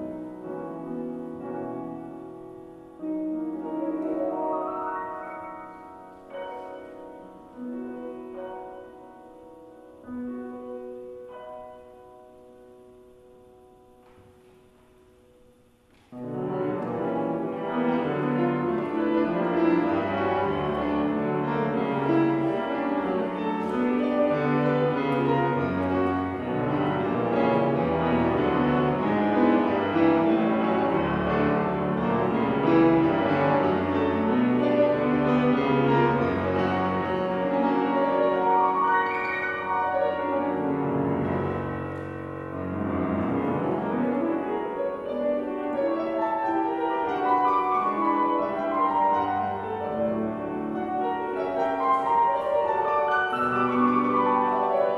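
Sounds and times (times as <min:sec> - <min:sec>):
solo piano playing: 0:00.0 - 0:54.9.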